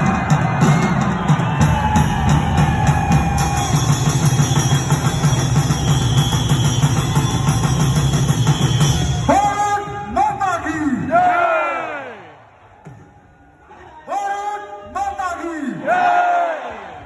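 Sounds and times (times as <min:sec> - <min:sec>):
large crowd din: 0:00.0 - 0:17.0.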